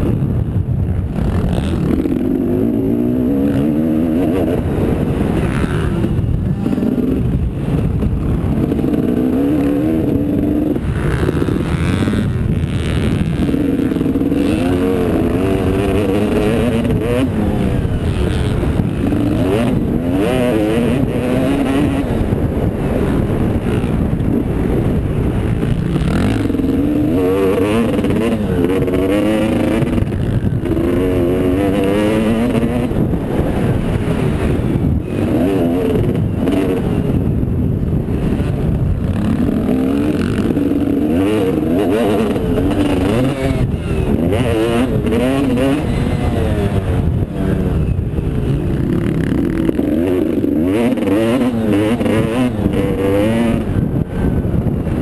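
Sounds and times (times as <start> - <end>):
motocross engines revving: 0.0 - 55.0.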